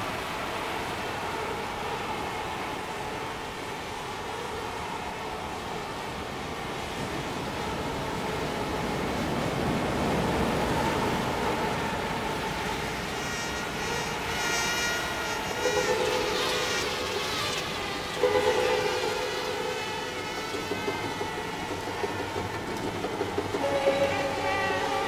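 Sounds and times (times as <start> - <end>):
wavering high whine: 0.0 - 25.0.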